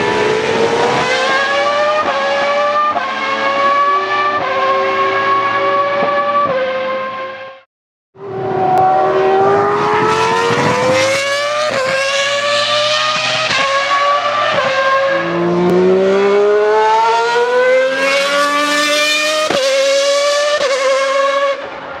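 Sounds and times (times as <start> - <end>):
racing car engine at full throttle: 0.0 - 7.6, 8.2 - 22.0.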